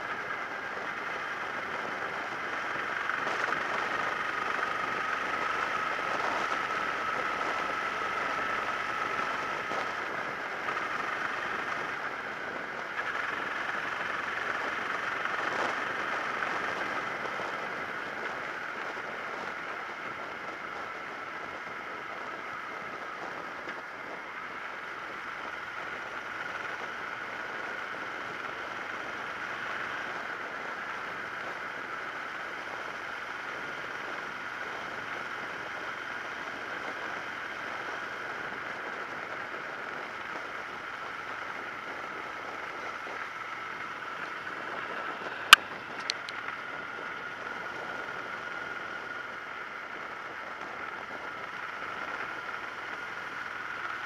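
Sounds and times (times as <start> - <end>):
motorcycle road noise: 0.0 - 54.0.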